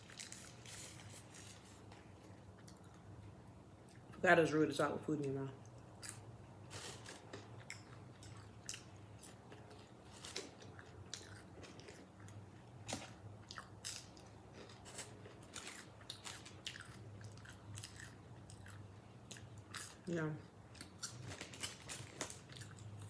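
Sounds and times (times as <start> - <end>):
person chewing crispy chicken: 0.0 - 3.1, 6.0 - 20.0, 20.8 - 23.0.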